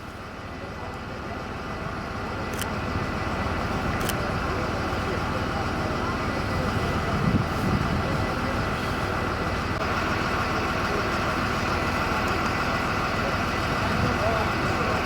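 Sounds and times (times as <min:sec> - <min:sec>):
vehicle running: 0:00.0 - 0:15.0.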